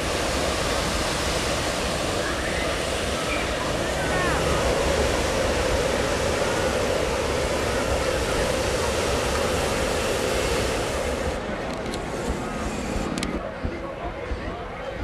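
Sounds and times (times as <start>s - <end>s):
propane burner roaring: 0.0s - 13.9s.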